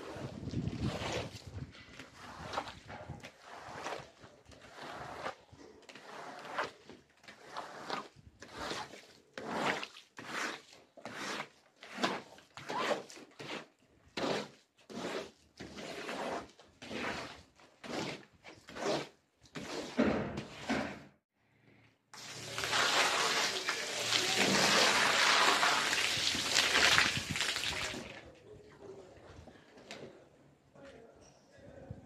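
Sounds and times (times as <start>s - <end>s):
squeegee swishing on wet rug: 0.0s - 20.0s, 22.2s - 28.2s.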